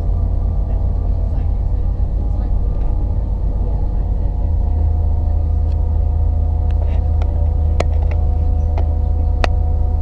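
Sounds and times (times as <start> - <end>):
droning hum: 0.0 - 10.0
train interior rumble: 0.0 - 10.0.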